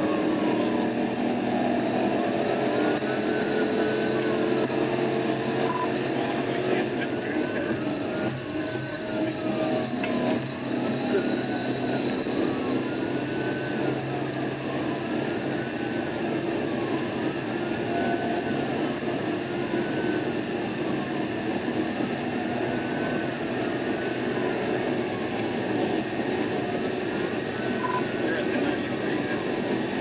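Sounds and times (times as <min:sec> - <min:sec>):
police siren wailing: 0:00.0 - 0:30.0
road and engine noise: 0:00.0 - 0:30.0.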